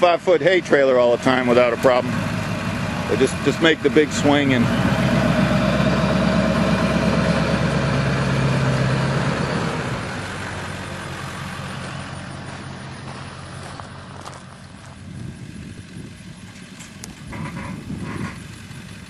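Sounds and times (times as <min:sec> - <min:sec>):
truck engine driving past: 0:00.0 - 0:19.0.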